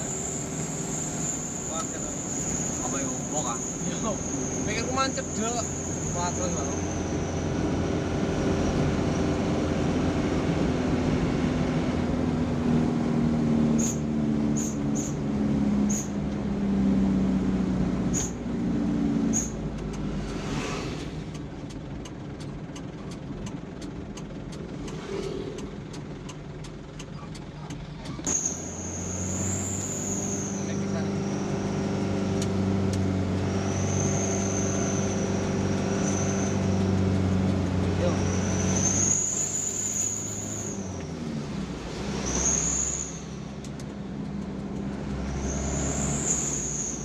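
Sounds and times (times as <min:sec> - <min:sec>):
truck engine under load: 0:00.0 - 0:47.0.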